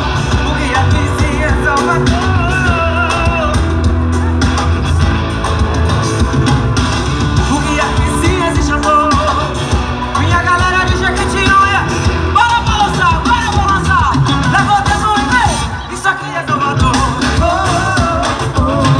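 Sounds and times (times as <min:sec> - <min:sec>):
person singing: 0:00.0 - 0:04.8, 0:07.4 - 0:18.9
guitar: 0:00.0 - 0:18.9
heavy bass: 0:00.0 - 0:18.9.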